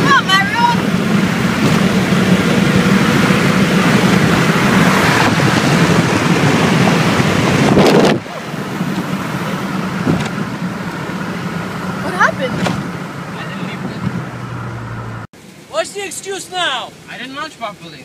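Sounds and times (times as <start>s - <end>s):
car engine accelerating hard: 0.0s - 15.3s
wind and road roar: 0.0s - 18.0s.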